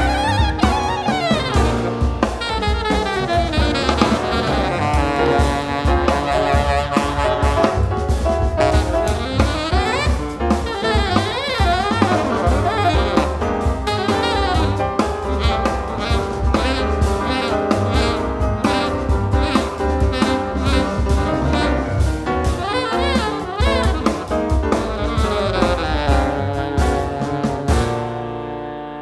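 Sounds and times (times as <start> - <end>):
double bass: 0.0 - 29.0
drum kit: 0.0 - 29.0
saxophones playing melody: 0.0 - 29.0.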